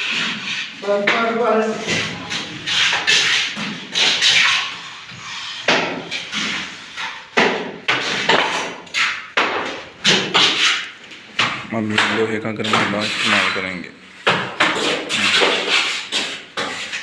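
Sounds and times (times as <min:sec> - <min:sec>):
plastering tools scraping plaster: 0:00.0 - 0:17.0.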